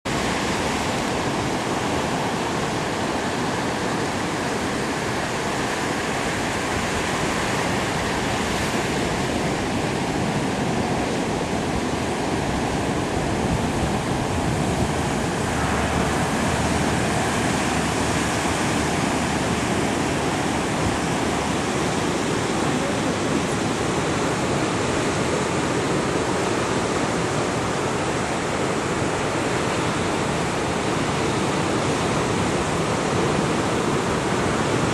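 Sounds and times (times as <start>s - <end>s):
waves breaking on rocky beach: 0.1s - 34.9s.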